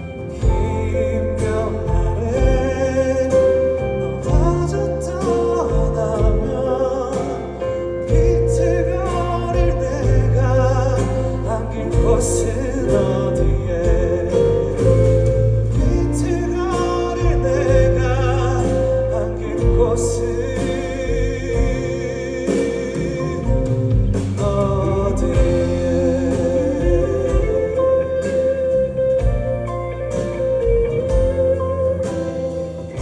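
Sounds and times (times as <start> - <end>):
live band with singing: 0.0 - 33.0.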